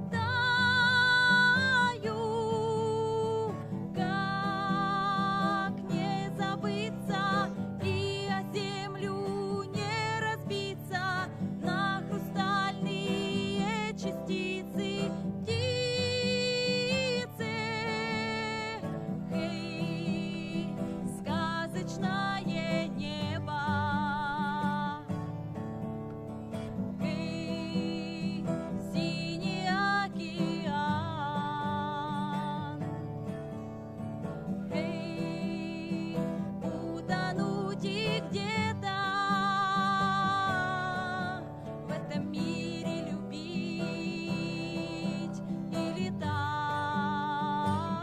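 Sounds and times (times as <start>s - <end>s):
person singing with vibrato: 0.0s - 25.3s, 26.8s - 33.1s, 34.5s - 48.0s
guitar chords: 0.0s - 48.0s.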